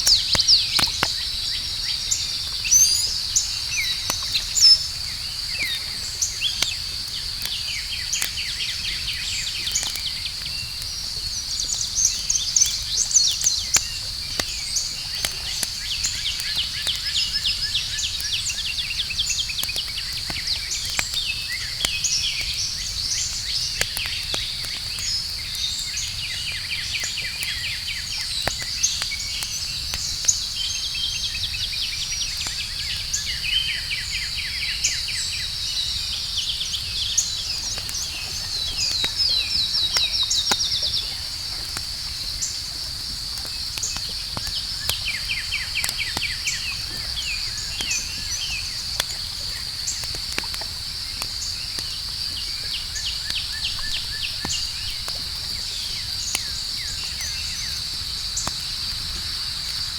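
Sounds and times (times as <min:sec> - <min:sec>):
campfire crackling and popping: 0:00.0 - 0:59.9
night insects trilling: 0:00.0 - 0:59.9.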